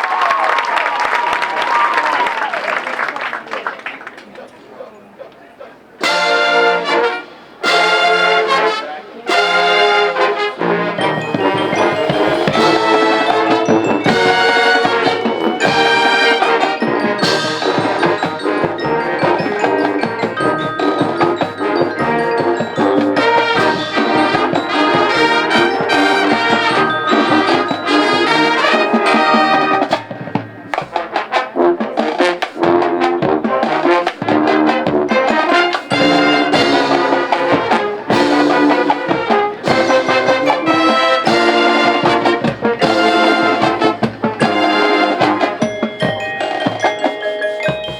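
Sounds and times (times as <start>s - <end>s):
trombones and trumpets: 5.7s - 47.9s
marching band playing: 5.9s - 47.9s.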